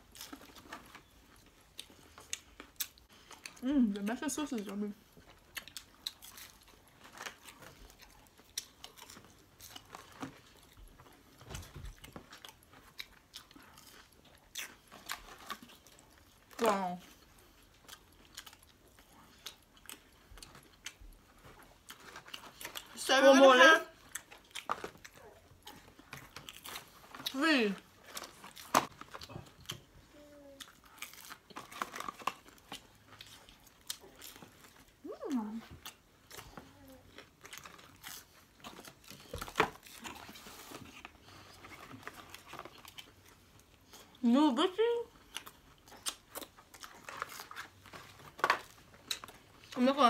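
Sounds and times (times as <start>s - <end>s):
chewing with mouth clicks: 0.0s - 23.0s, 23.9s - 35.0s, 35.6s - 44.2s, 45.1s - 49.8s.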